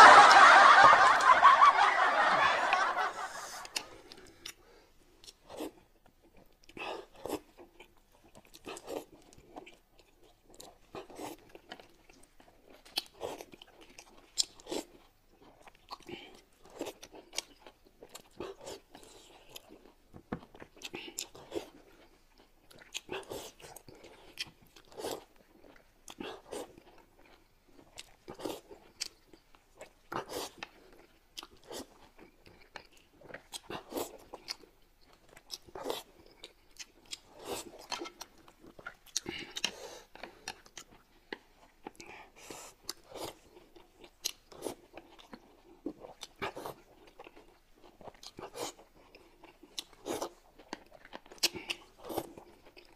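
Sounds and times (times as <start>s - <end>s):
chewing and biting: 3.5s - 52.9s.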